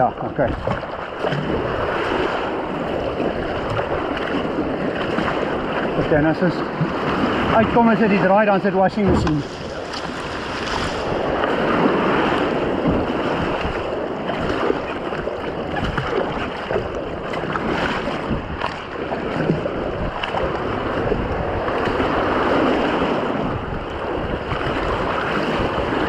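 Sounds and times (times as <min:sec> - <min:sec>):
paddle splashes: 0:00.0 - 0:26.0
river water rushing: 0:00.0 - 0:26.0
wind on microphone: 0:00.0 - 0:26.0.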